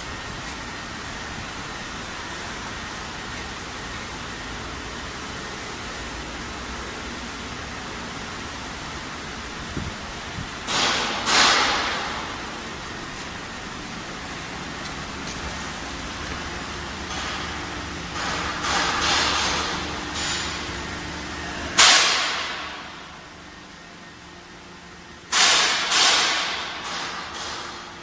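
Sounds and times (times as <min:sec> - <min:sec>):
hydraulic press humming: 0:00.0 - 0:28.0.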